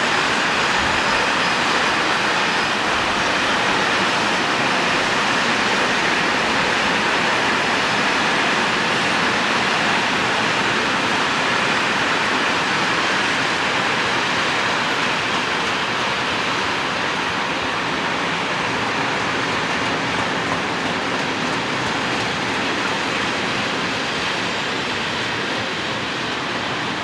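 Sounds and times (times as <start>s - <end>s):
train wheels rushing: 0.0s - 27.0s.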